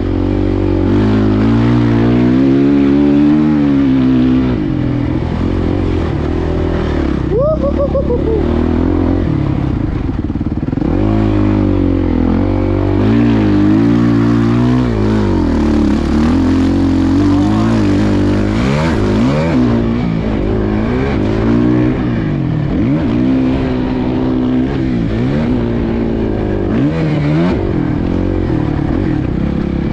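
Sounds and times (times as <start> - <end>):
motocross bike engine revving: 0.0 - 29.9.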